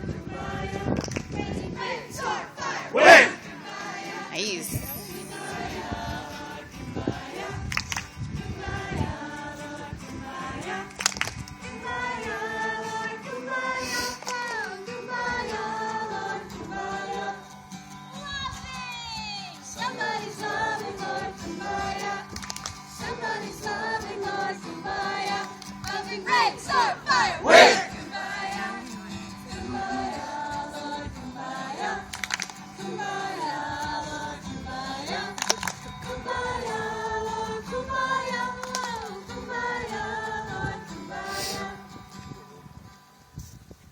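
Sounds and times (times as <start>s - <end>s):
group singing a worship song: 0.0s - 18.0s, 19.6s - 42.2s.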